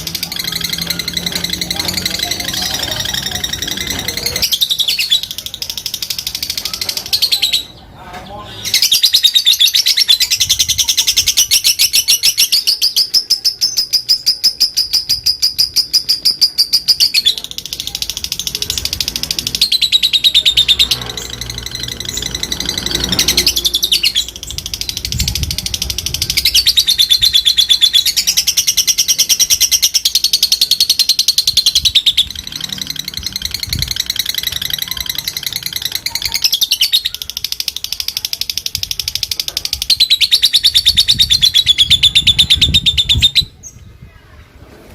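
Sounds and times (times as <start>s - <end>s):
lovebird chattering: 0.0s - 7.9s, 8.5s - 43.8s.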